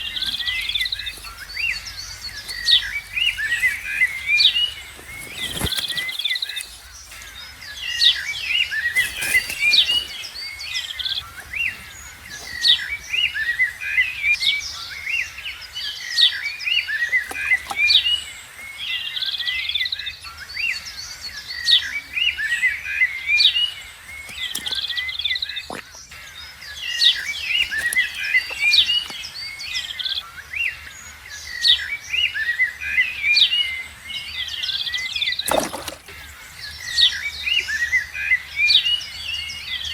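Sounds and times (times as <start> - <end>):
small birds chirping: 0.0 - 31.9, 33.4 - 39.9.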